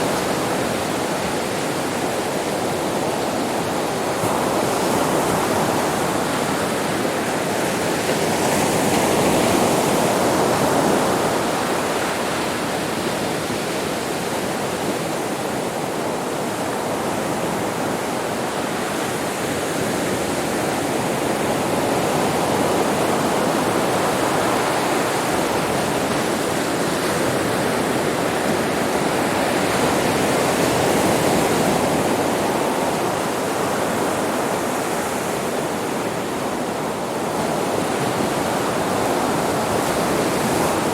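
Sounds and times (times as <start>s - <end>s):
sea waves washing onto beach: 0.0s - 40.9s.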